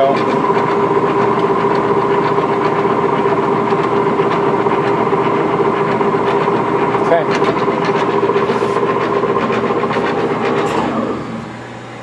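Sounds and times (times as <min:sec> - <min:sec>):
engine lathe whining: 0:00.0 - 0:12.0.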